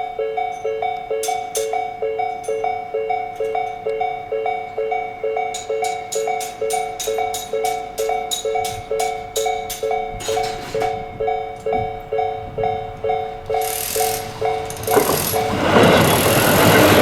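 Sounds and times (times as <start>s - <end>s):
approaching train: 0.0s - 17.0s
level crossing electronic bell: 0.0s - 17.0s.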